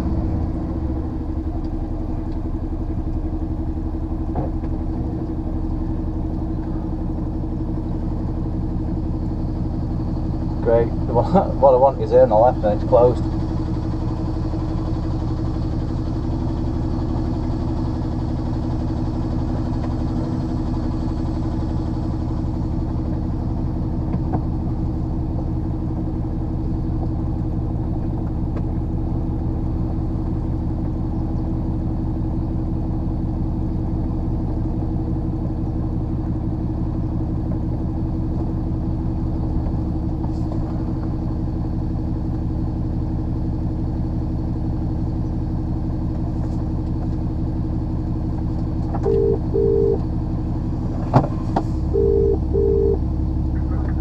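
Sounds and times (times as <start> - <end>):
lorry diesel engine running: 0.0 - 54.0.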